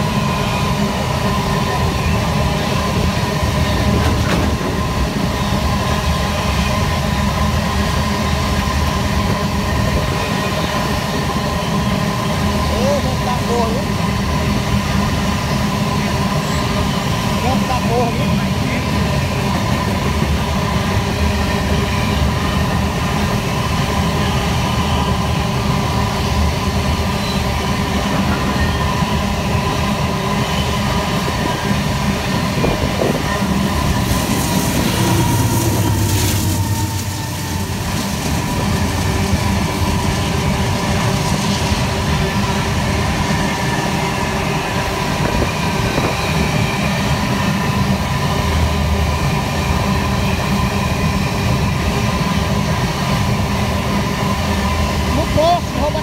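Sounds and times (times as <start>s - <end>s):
diesel locomotive engine hum: 0.0s - 56.0s
freight train wheels rattling on rails: 0.0s - 56.0s.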